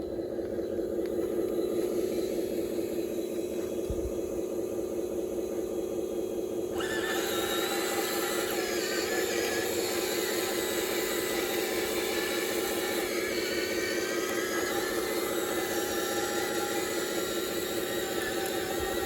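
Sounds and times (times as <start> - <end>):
excavator engine humming: 0.0 - 19.0
hydraulic whine: 0.0 - 19.0.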